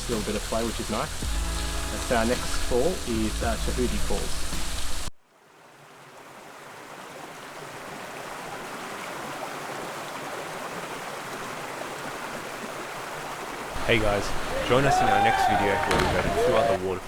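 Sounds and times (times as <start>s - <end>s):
waterfall rushing: 0.0s - 5.1s, 8.2s - 17.0s.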